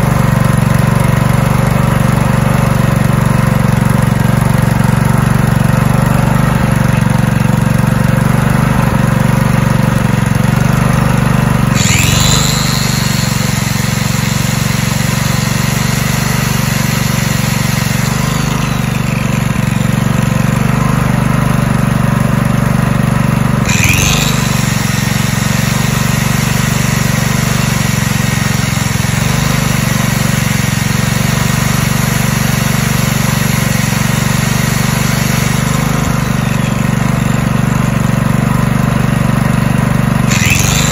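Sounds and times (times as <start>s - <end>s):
angle grinder whining: 0.0s - 40.9s
generator engine running: 0.0s - 40.9s.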